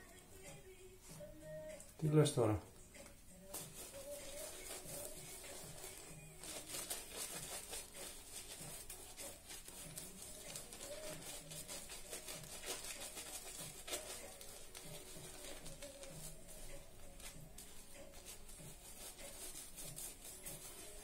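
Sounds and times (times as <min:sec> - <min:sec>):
shaving brush scrubbing lather: 0:03.5 - 0:21.0.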